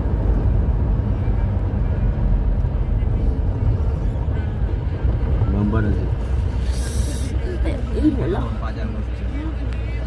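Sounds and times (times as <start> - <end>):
road vehicle engine and road noise: 0.0 - 10.0.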